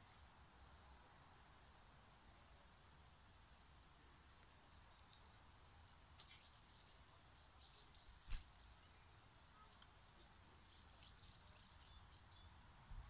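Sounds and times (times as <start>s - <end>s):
thin steady high hiss: 0.0s - 13.0s.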